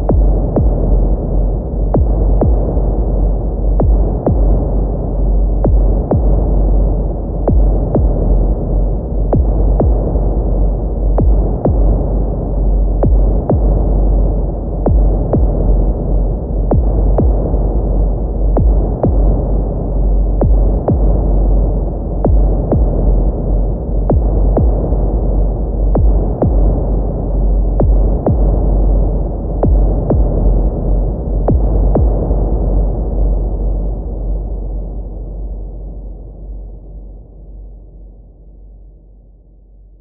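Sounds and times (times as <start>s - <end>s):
heartbeat lub-dub: 0.0s - 38.1s
low rumbling hum: 0.0s - 40.0s.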